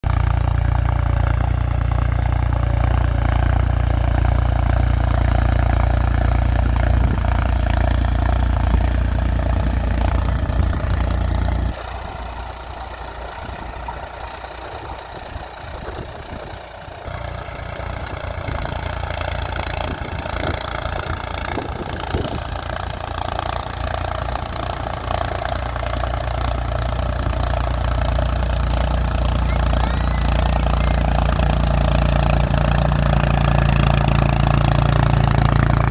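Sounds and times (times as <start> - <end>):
tractor diesel engine drone: 0.0 - 35.9.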